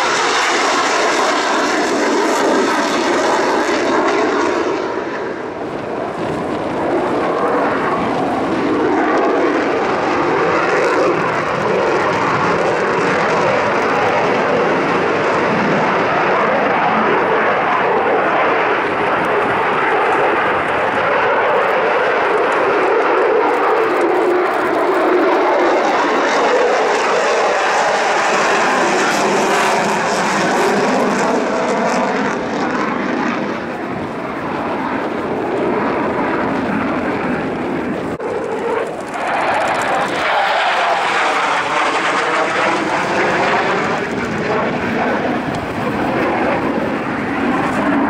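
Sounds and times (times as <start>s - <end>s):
jet engine roar overhead: 0.0s - 48.0s.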